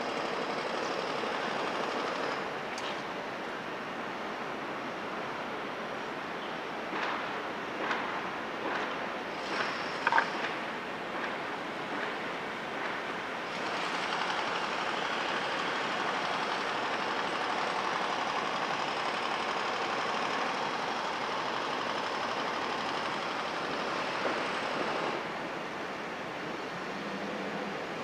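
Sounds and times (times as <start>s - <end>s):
distant heavy engine noise: 0.0s - 3.7s, 6.9s - 28.0s.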